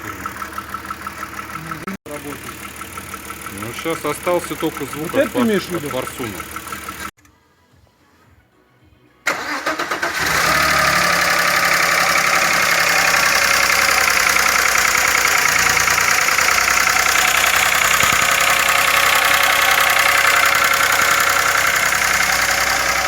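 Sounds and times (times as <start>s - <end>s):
car engine starting and idling: 0.0s - 7.1s, 9.3s - 23.0s.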